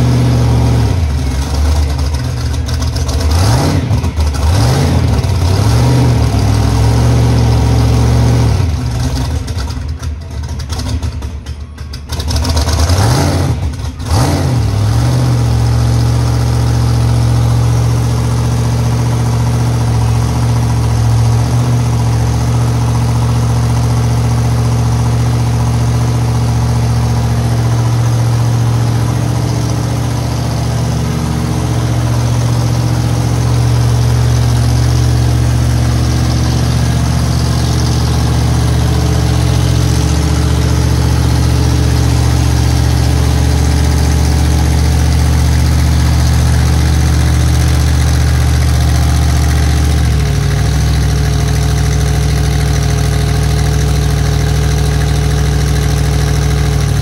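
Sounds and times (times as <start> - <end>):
truck engine idling loudly: 0.0 - 57.0.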